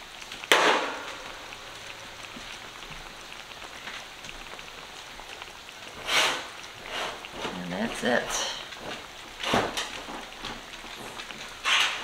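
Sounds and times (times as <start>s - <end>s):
sauce simmering with small pops: 0.0s - 12.0s.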